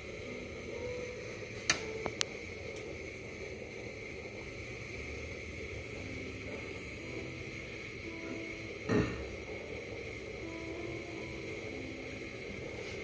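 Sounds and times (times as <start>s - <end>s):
stove hissing with faint whine: 0.0s - 13.0s.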